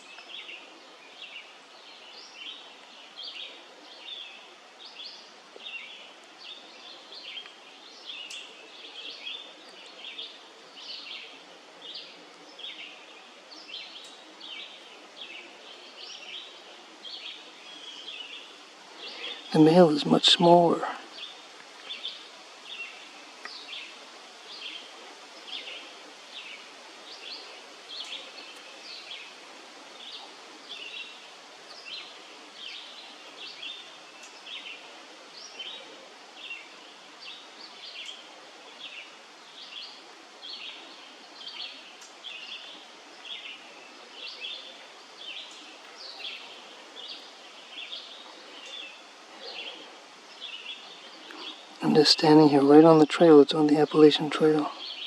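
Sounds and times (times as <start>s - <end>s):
birds chirping: 0.0s - 55.0s
faint outdoor hiss: 0.0s - 55.0s.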